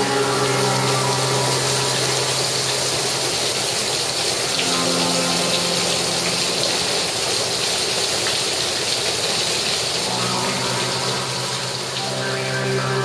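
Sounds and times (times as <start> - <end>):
heavy rain splashing into water: 0.0 - 13.0.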